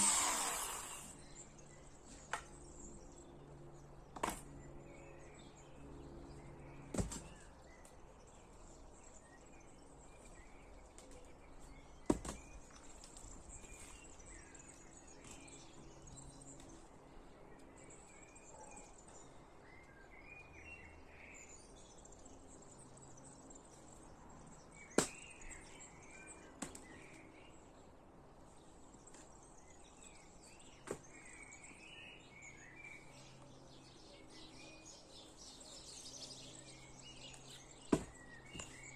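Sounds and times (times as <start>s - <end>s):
faint birds chirping: 0.0s - 38.9s.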